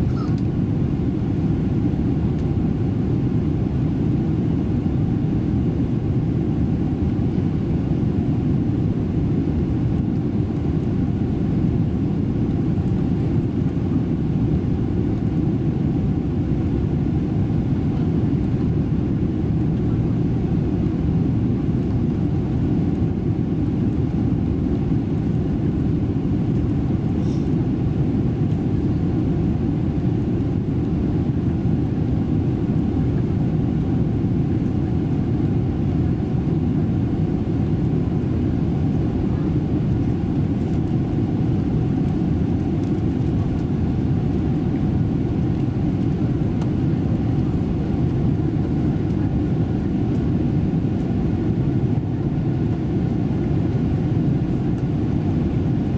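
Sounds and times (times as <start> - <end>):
airflow over fuselage: 0.0 - 55.9
jet engines droning: 0.0 - 55.9.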